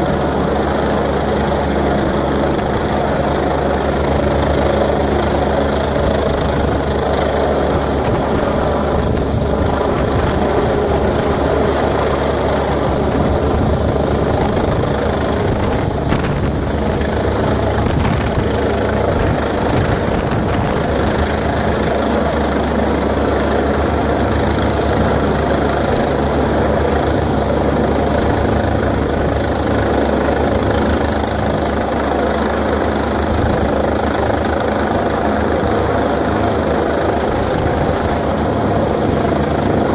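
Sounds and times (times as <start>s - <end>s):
helicopter rotor beat: 0.0s - 39.9s
turbine engine whine: 0.0s - 39.9s.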